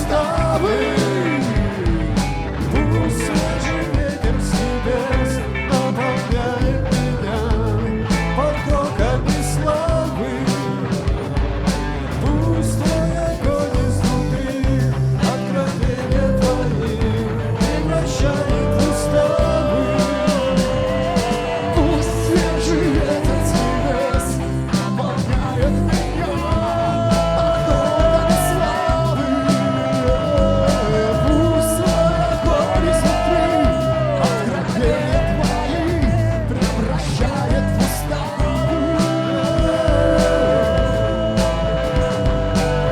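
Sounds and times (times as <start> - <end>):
drums: 0.0 - 42.9
guitar: 0.0 - 42.9
live rock worship band: 0.0 - 42.9.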